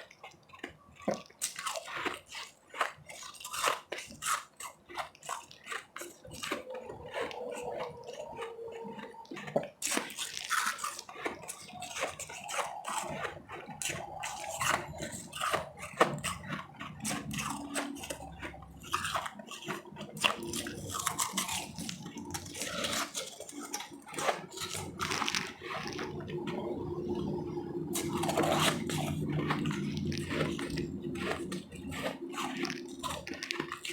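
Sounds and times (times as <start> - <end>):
ice being chewed: 0.0 - 33.9.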